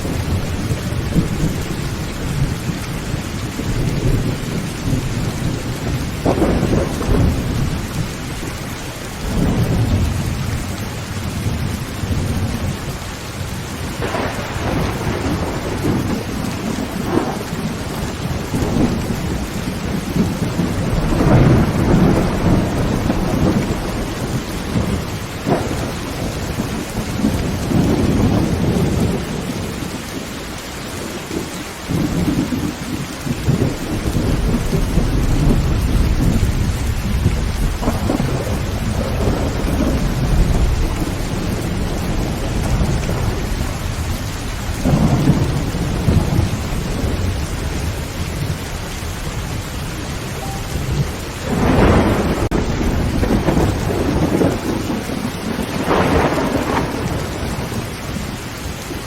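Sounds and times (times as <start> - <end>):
sharp thunder claps: 0.0 - 8.5, 9.2 - 12.7, 13.8 - 29.9, 31.9 - 49.6, 50.4 - 58.3
thunder rumbling: 0.0 - 30.2, 31.0 - 59.0
heavy rain on a tin roof: 0.0 - 59.0.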